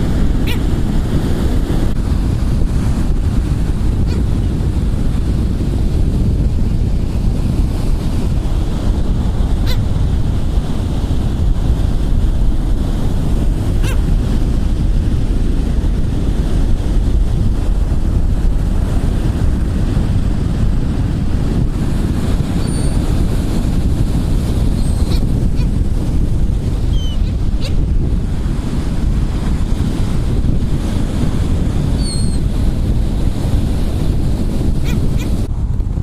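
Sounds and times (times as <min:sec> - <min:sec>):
breaking surf: 0:00.0 - 0:36.0
wind buffeting microphone: 0:00.0 - 0:36.0.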